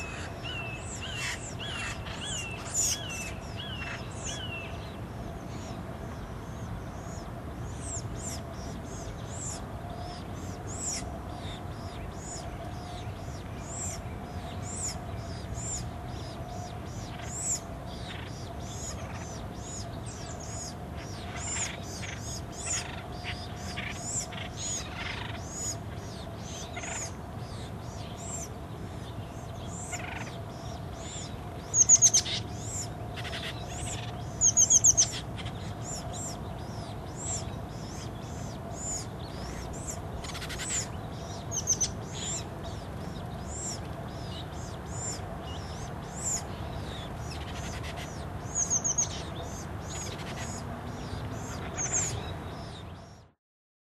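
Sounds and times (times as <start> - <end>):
high-pitched bird calls: 0.0 - 4.8, 6.4 - 28.5, 29.3 - 53.4.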